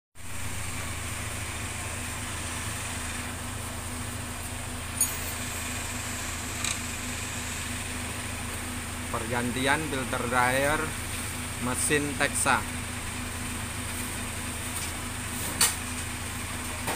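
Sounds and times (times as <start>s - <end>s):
high whine: 0.2s - 14.2s
steady mechanical hum: 0.2s - 16.9s.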